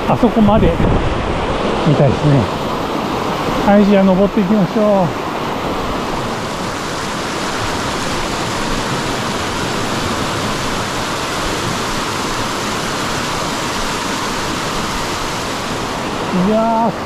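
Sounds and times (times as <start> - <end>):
rushing stream and waterfall: 0.0 - 17.0.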